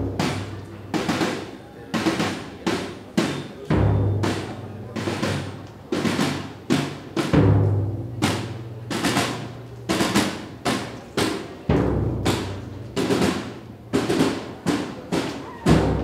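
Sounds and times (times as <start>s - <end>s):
snare drum strikes: 0.0s - 16.0s.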